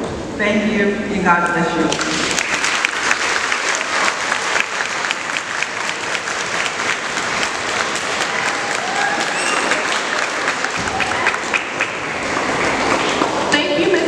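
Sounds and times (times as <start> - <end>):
audience applauding: 1.9 - 13.5.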